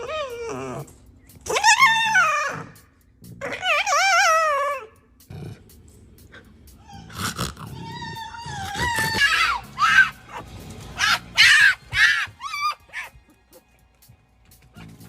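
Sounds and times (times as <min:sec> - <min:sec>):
high-pitched wavering vocal cries: 0:00.0 - 0:05.2, 0:06.3 - 0:10.4, 0:11.0 - 0:13.7.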